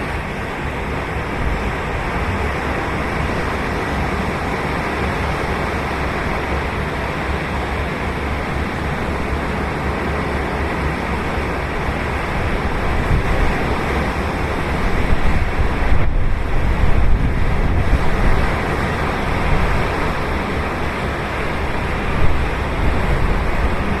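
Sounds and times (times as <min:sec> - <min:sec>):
waves breaking on beach: 0:00.0 - 0:24.0.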